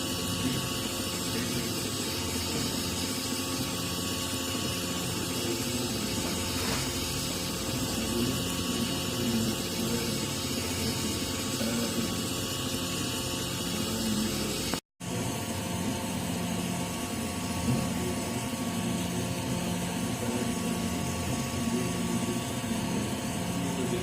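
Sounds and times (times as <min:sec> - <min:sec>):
fan hiss: 0:00.0 - 0:24.0.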